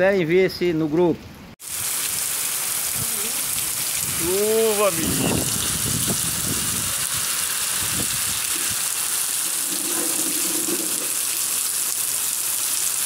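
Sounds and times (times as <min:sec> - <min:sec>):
heavy rain falling: 0:01.6 - 0:13.0.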